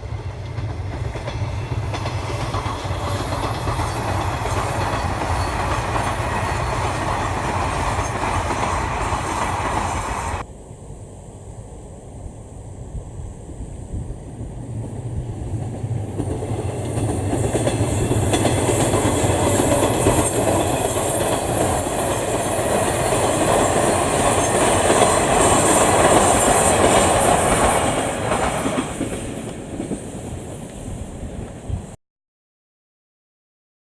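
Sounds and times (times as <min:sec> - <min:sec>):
train wheels clacking on rails: 0:00.0 - 0:10.5, 0:14.0 - 0:31.9.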